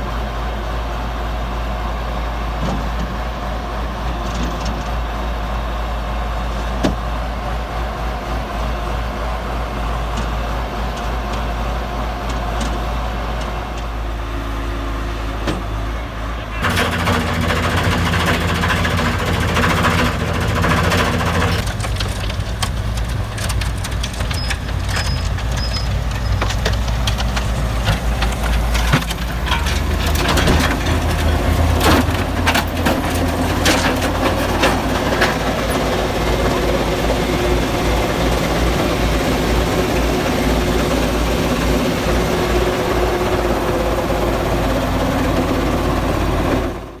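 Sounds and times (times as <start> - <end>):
snowblower engine drone: 0.0 - 47.0.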